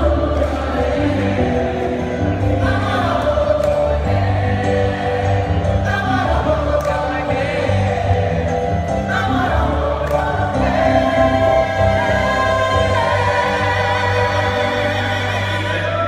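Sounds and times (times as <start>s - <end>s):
gospel choir singing: 0.0s - 16.0s
steady bass line: 0.0s - 16.0s.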